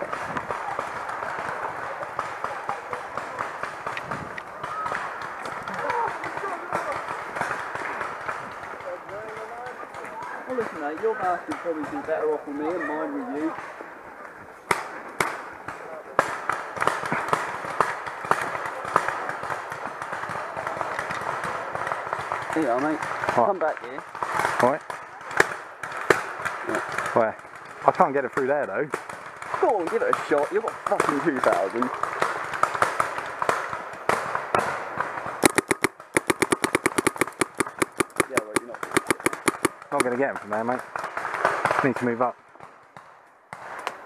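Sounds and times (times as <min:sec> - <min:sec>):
paintball markers firing: 0:00.0 - 0:12.3, 0:14.7 - 0:27.8, 0:28.4 - 0:41.9.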